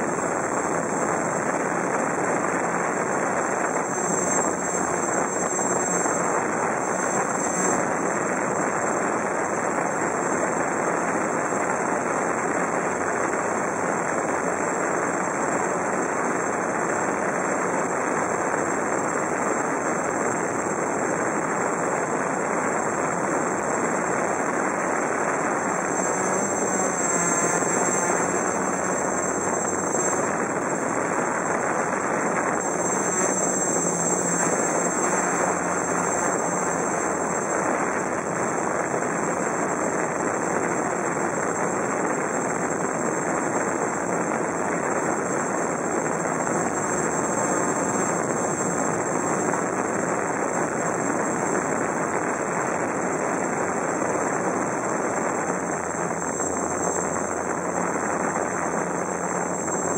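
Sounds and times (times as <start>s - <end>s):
quadcopter motors buzzing: 0.0s - 59.9s
wind on microphone: 0.0s - 59.9s.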